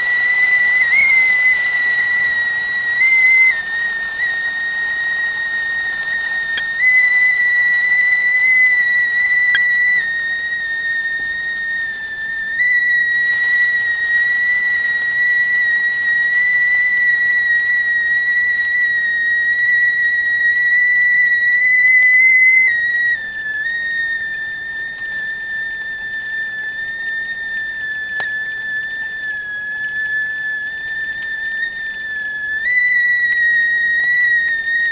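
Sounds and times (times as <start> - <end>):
kettle whistling: 0.0 - 34.9.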